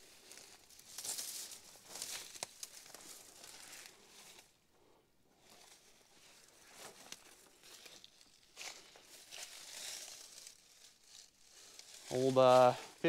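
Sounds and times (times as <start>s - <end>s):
footsteps crunching dry grass: 0.0s - 4.6s, 5.4s - 13.0s.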